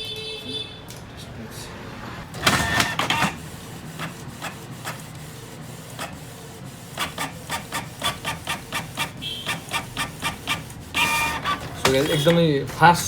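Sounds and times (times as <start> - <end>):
inkjet printer clicks and whirs: 2.3 - 13.0
print head shuttling: 2.3 - 13.0.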